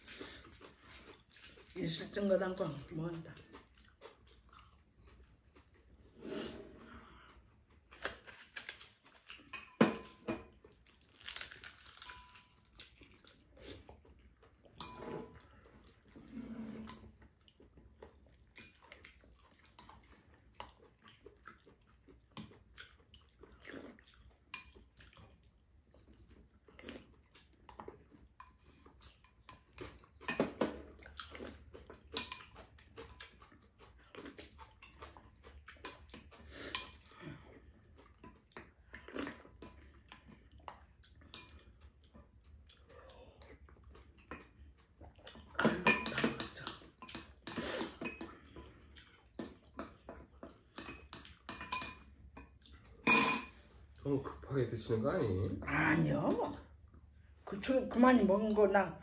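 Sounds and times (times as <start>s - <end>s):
people chewing: 0.0s - 53.0s.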